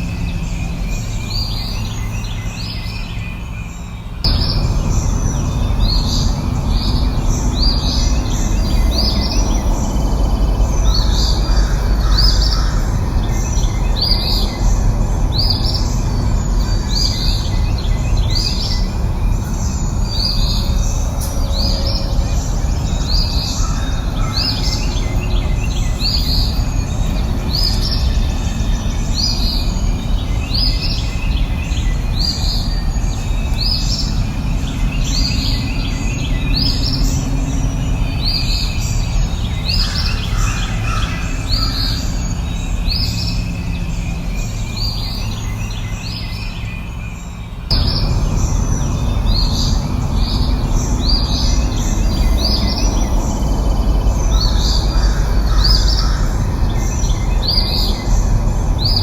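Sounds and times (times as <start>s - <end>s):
bird chirping: 0.0s - 59.0s
low rumbling background: 0.0s - 59.0s.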